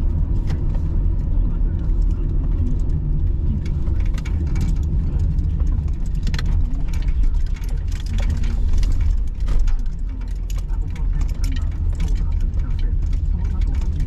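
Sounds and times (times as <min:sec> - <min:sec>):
light rain tapping on windshield: 0:00.0 - 0:14.0
low engine rumble: 0:00.0 - 0:14.0.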